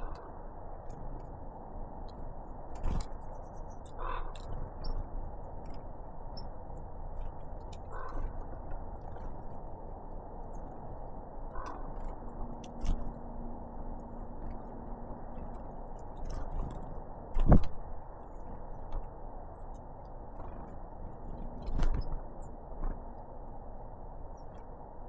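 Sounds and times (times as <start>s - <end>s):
birds pecking at seed: 0.0s - 25.0s
steady noisy background: 0.0s - 25.0s.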